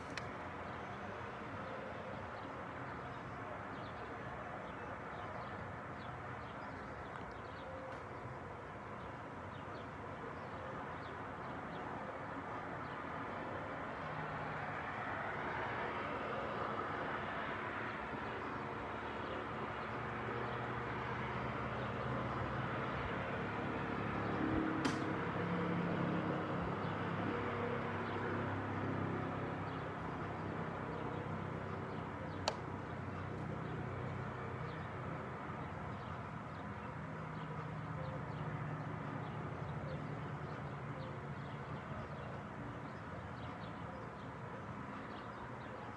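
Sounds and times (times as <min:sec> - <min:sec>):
distant traffic: 0:00.0 - 0:45.9.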